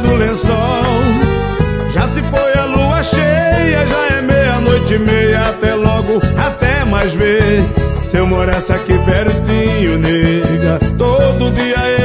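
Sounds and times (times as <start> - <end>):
accordion melody: 0.0 - 12.0
bass drum: 0.0 - 12.0.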